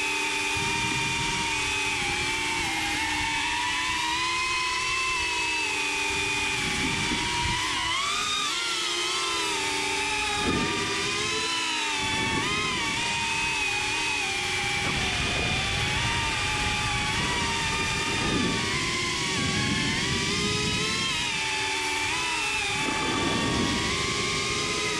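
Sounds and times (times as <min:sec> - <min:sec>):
drone motors and propellers whining: 0:00.0 - 0:24.9.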